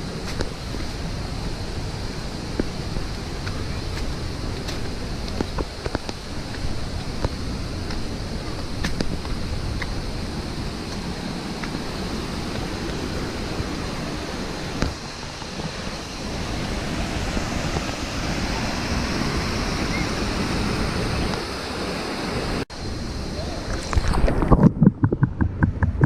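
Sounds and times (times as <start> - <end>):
waterfall rushing: 0.0 - 24.5.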